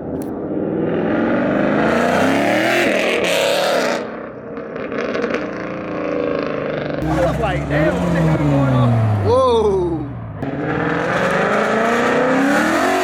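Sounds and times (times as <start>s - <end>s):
car engine accelerating: 0.4s - 13.0s.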